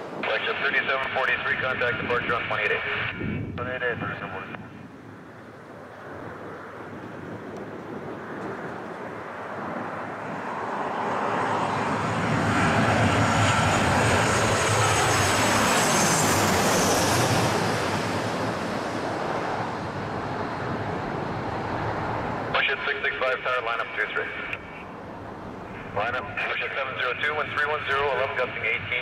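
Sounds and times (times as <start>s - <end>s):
high engine whine: 0.0s - 29.0s
jet airliner passing overhead: 0.0s - 29.0s.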